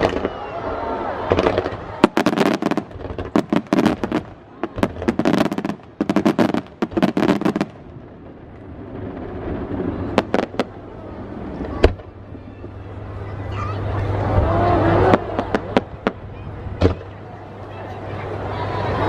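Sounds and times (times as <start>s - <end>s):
fireworks bangs: 0.0s - 13.2s, 14.0s - 17.2s.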